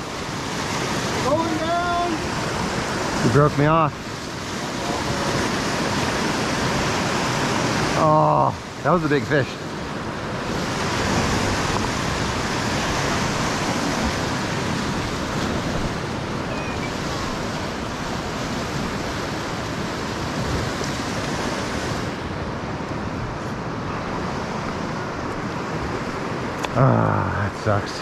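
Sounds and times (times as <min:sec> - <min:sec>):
river rushing through rapids: 0:00.0 - 0:28.0.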